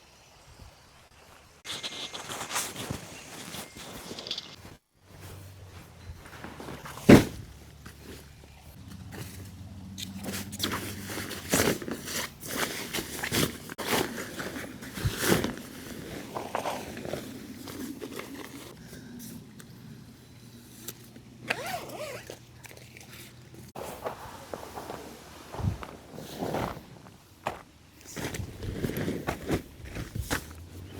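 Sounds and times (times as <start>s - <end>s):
crunching and rustling footsteps: 1.6s - 18.8s, 20.7s - 30.9s.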